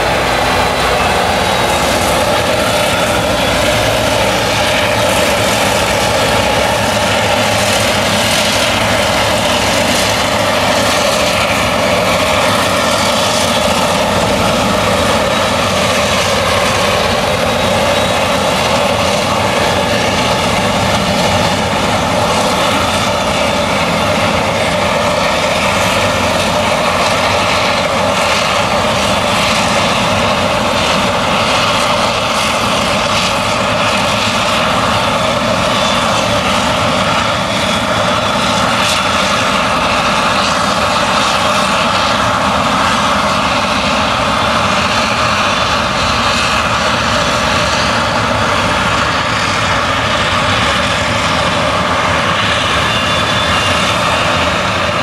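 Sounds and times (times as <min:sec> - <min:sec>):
forage harvester droning: 0:00.0 - 0:55.0.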